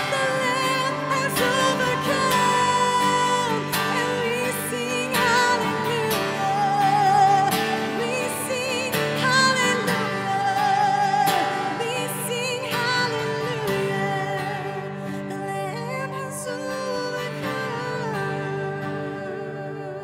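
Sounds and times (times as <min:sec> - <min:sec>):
strummed acoustic guitar: 0:00.0 - 0:20.0
woman singing a slow melody: 0:00.0 - 0:20.0.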